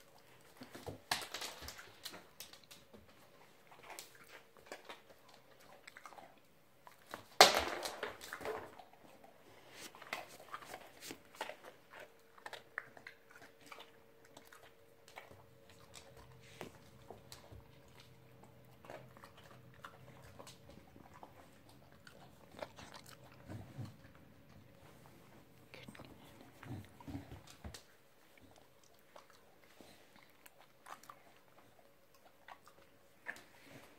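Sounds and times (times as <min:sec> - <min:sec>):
dog crunching biscuits: 0:00.0 - 0:33.9.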